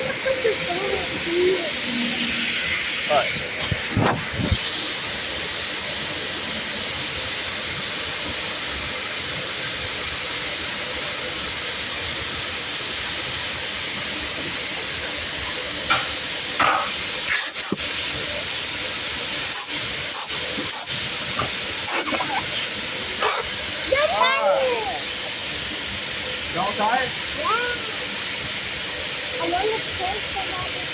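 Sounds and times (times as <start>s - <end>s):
high-pressure water spray: 0.0s - 30.9s.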